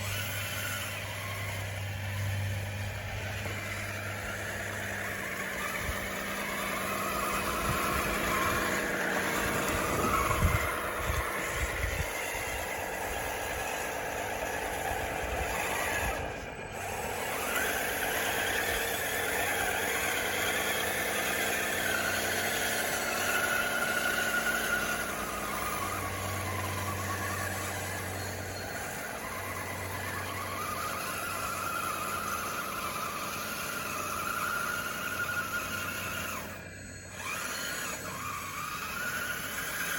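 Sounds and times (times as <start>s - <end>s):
toy motors and gears whining: 0.0s - 39.9s.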